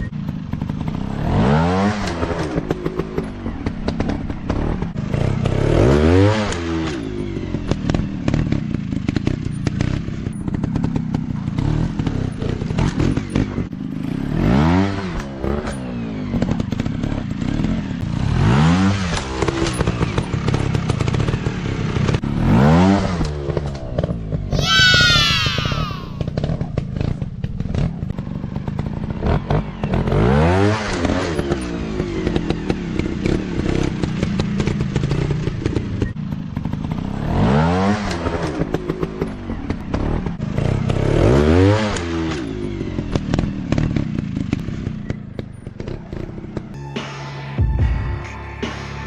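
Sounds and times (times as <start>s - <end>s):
dirt bike engine revving: 0.0s - 47.2s.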